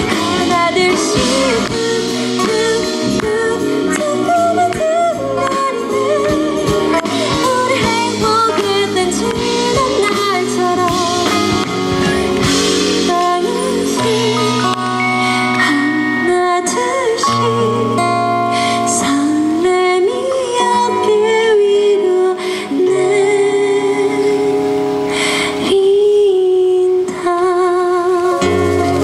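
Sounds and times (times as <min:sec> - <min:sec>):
band accompaniment: 0:00.0 - 0:26.0, 0:28.1 - 0:29.0
woman singing into microphone: 0:00.0 - 0:29.0.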